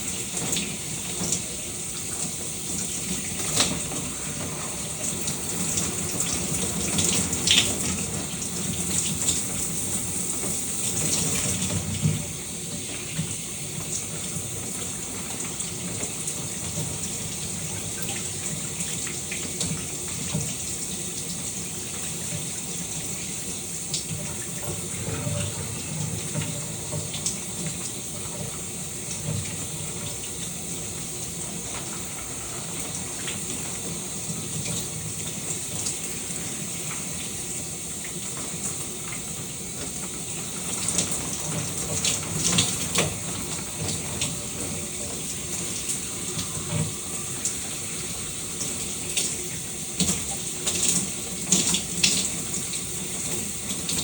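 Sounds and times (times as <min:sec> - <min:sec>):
shower water running: 0:00.0 - 0:54.0
water splashes: 0:00.0 - 0:54.0.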